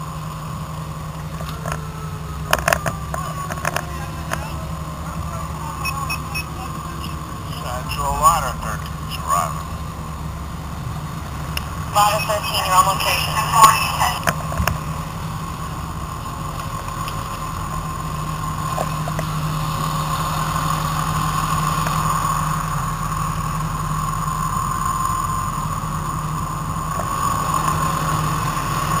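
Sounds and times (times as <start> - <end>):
fire engine running: 0.0 - 29.0.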